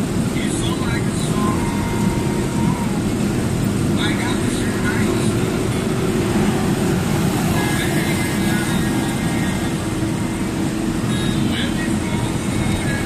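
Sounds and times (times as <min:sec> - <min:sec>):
road noise inside cab: 0:00.0 - 0:13.0
truck engine running: 0:00.0 - 0:13.0.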